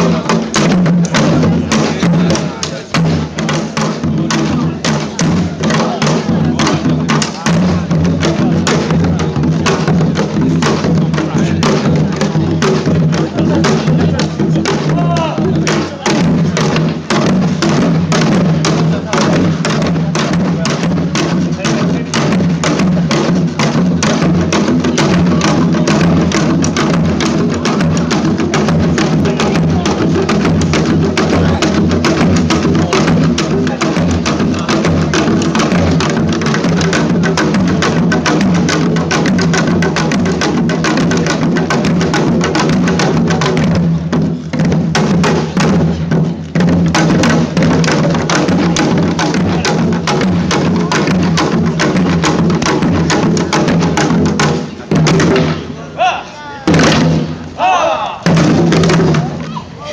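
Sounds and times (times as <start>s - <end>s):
fast dense drumming: 0.0s - 55.8s, 56.7s - 57.5s, 58.2s - 59.6s.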